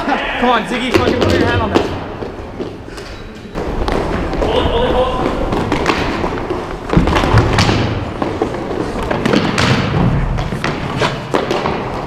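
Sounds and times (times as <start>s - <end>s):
hockey sticks and ball clacking: 0.8s - 12.0s.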